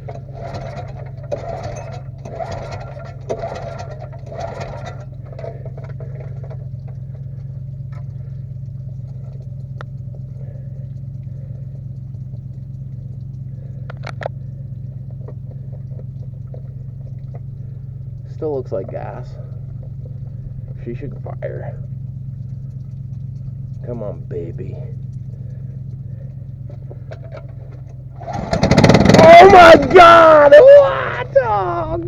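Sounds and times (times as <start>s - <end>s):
engine cranking: 0.0s - 32.0s
steady engine hum: 0.0s - 32.0s.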